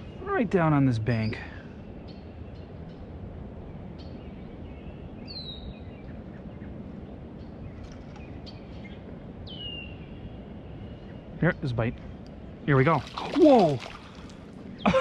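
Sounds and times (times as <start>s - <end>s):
faint bird chirps: 0.0s - 12.2s
outdoor background noise: 0.0s - 15.0s.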